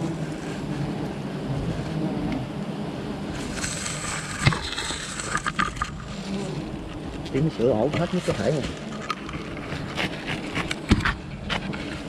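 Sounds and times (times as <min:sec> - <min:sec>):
faint scrapes: 0:00.0 - 0:02.2, 0:03.3 - 0:12.0
honeybees humming: 0:00.0 - 0:12.0.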